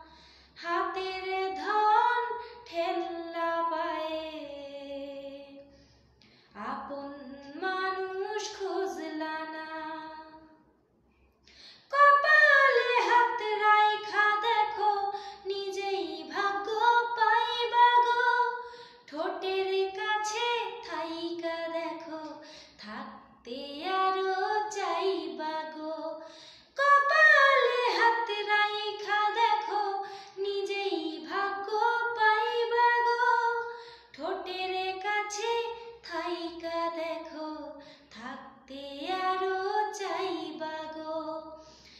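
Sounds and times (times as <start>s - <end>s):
woman singing unaccompanied: 0.6s - 5.7s, 6.6s - 10.5s, 11.9s - 26.2s, 26.8s - 41.6s.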